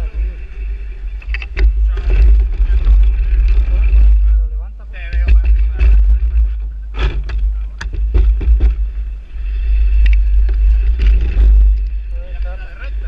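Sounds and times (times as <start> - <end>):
motorcycle engine rumble: 0.0 - 13.0
knocks and rattles: 1.2 - 9.2, 9.8 - 13.0.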